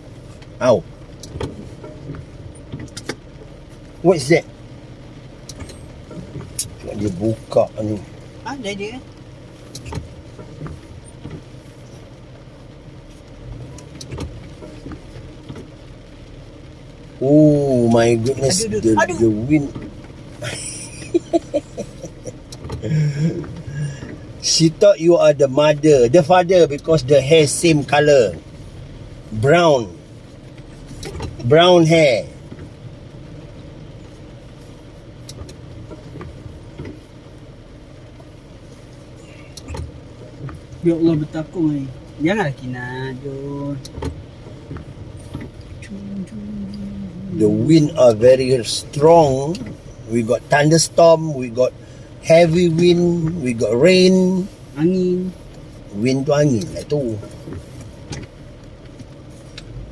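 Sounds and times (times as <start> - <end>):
car engine low rumble: 0.0 - 59.9.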